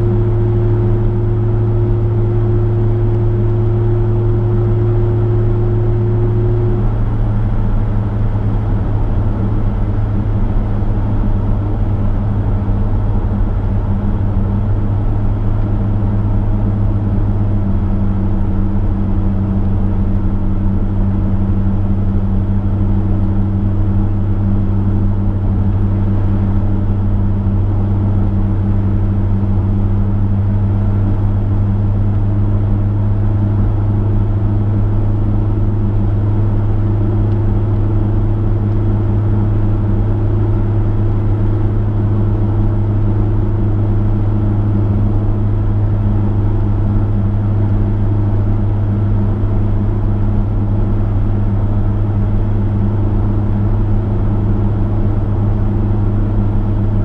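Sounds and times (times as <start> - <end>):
car engine droning: 0.0 - 57.0
road noise: 0.0 - 57.0.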